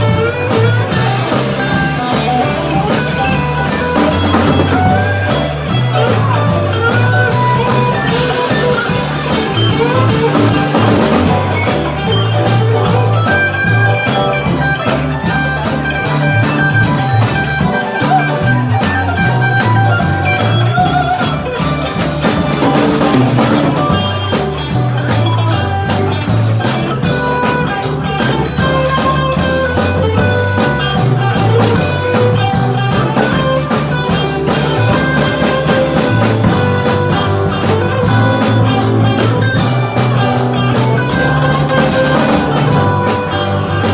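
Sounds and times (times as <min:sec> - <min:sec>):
blues-rock band playing: 0:00.0 - 0:43.9.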